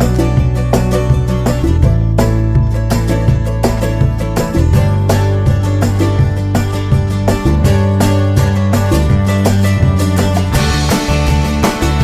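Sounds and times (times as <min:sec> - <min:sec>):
plucked notes over bass: 0:00.0 - 0:12.0.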